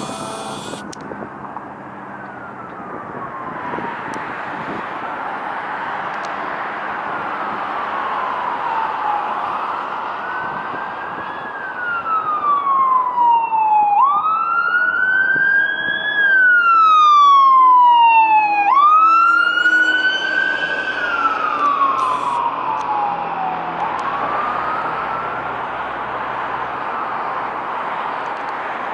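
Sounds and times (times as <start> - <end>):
fire engine siren wailing: 0.0 - 28.9.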